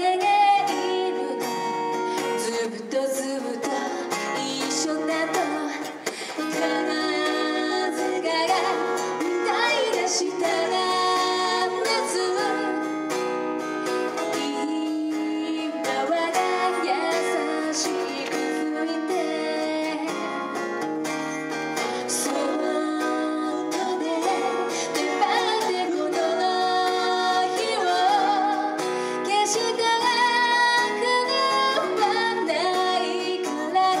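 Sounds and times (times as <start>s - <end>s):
person singing: 0.0s - 34.0s
plucked guitar: 0.0s - 34.0s.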